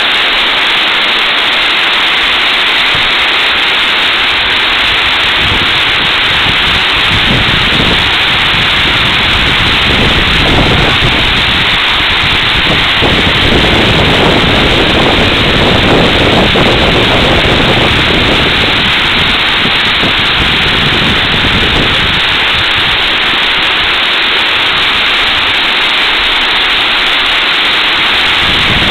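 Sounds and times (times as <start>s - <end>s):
deep water rumble: 0.0s - 28.9s
water rushing over spillway: 0.0s - 28.9s.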